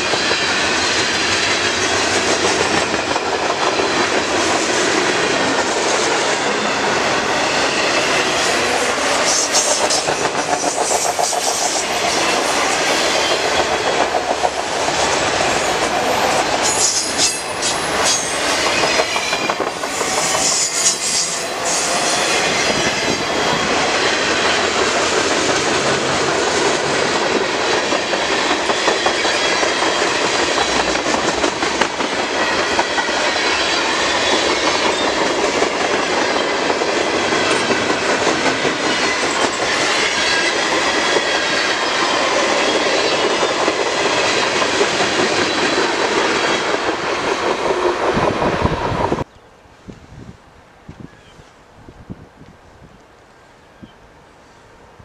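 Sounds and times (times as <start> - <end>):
steel wheels clattering over rail joints: 0.0 - 49.3
freight train rolling past: 0.0 - 49.4.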